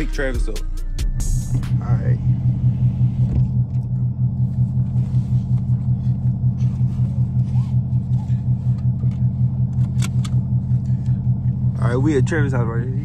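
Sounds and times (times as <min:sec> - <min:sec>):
car engine rumbling from inside: 0:00.0 - 0:13.0.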